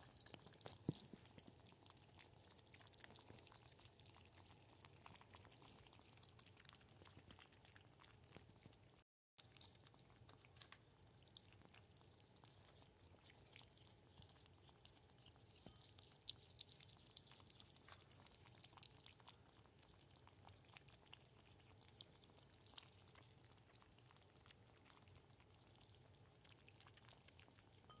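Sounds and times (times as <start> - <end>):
ferrets lapping water: 0.0 - 27.9.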